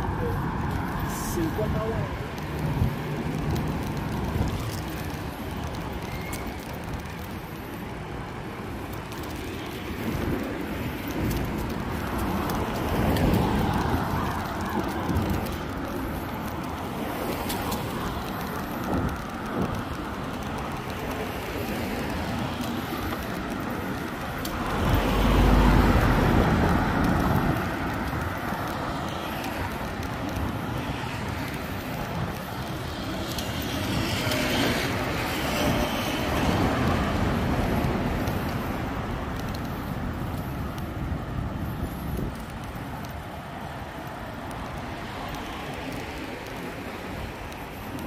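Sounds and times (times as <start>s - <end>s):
vehicles passing: 0.0s - 48.0s.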